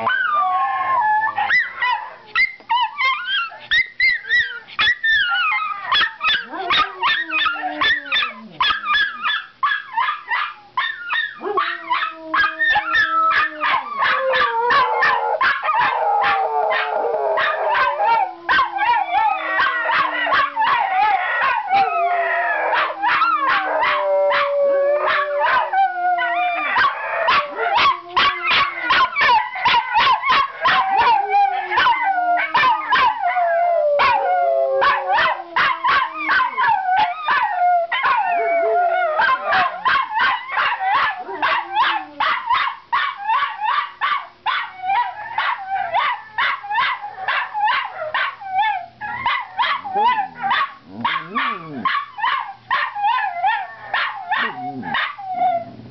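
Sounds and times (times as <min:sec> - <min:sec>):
dogs yelping: 0:00.0 - 0:55.8
dogs howling: 0:00.0 - 0:55.9.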